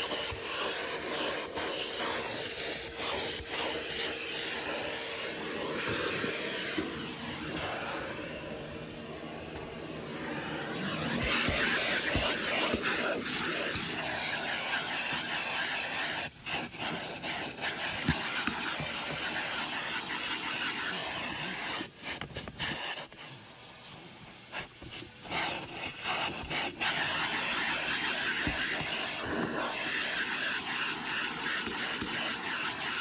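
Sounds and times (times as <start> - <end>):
vacuum cleaner sucking at carpet: 0.0 - 33.0.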